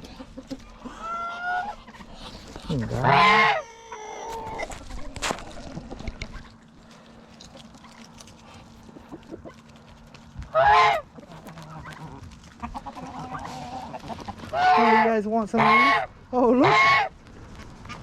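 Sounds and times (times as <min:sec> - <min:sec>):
poultry calling: 0:00.0 - 0:17.1.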